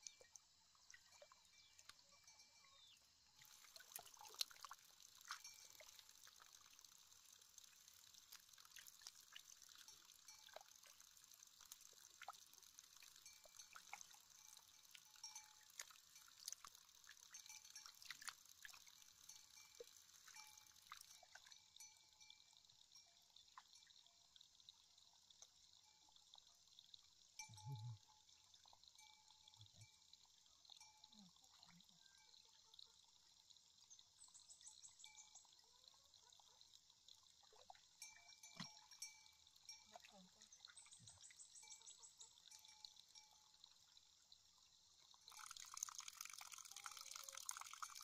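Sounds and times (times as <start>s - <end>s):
water splashing and dripping: 3.4s - 32.0s, 35.0s - 48.0s.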